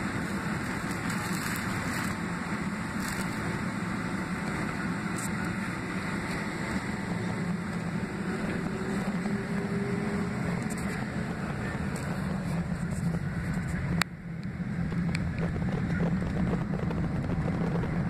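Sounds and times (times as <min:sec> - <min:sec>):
aircraft cabin drone: 0:00.0 - 0:18.0.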